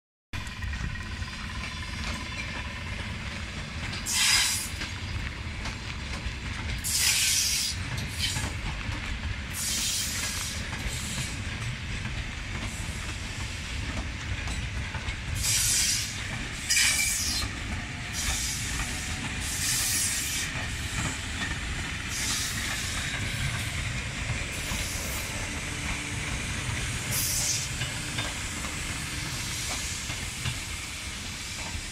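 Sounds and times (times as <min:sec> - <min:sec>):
train wheels rumbling on rails: 0:00.4 - 0:31.9.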